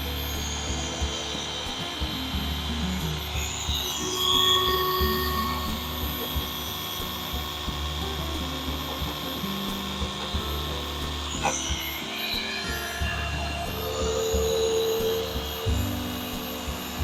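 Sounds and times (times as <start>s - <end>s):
electric buffing machine running: 0.0s - 17.0s.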